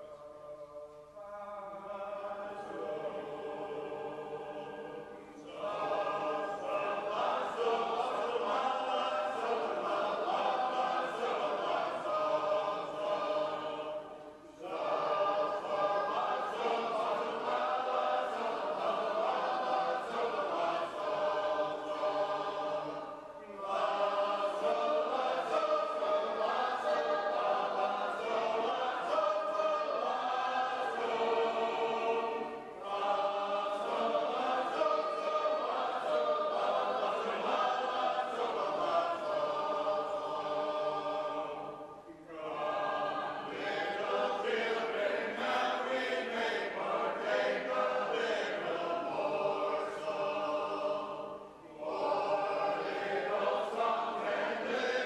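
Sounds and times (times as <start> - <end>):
group singing a hymn a cappella: 0.0 - 55.0.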